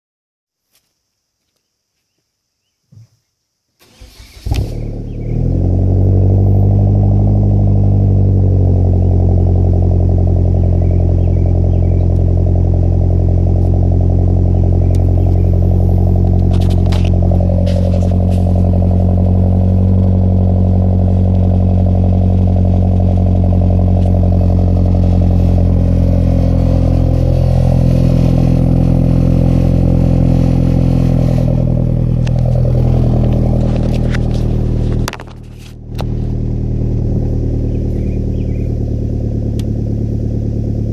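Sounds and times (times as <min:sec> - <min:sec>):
car engine idling: 0:03.8 - 0:40.9.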